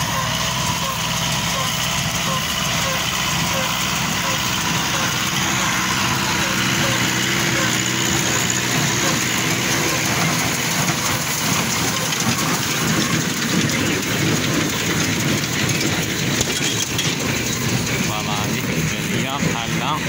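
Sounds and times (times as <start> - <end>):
low engine hum: 0.0 - 20.0
machinery running: 0.0 - 20.0.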